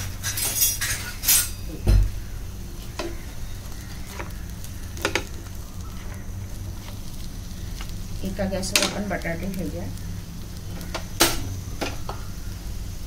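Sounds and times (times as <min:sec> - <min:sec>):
light sizzle of hot oil: 0:00.0 - 0:13.0.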